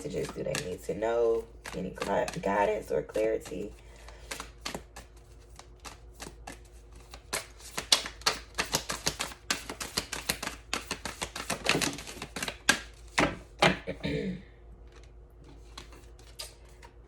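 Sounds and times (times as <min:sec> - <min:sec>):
cards being shuffled: 0:00.0 - 0:13.4, 0:14.9 - 0:17.0.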